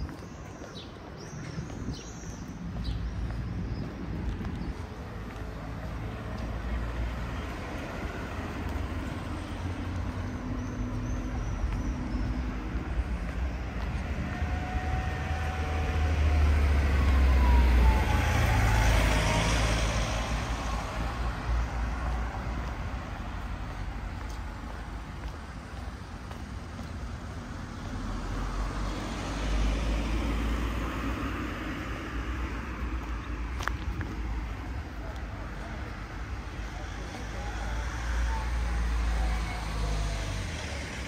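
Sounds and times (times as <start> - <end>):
traffic rumble: 0.0 - 41.0.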